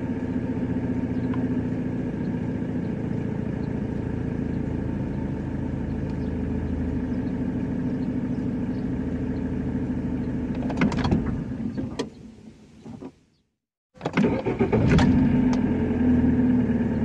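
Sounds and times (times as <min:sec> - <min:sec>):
engine idling drone: 0:00.0 - 0:11.8, 0:14.4 - 0:17.0.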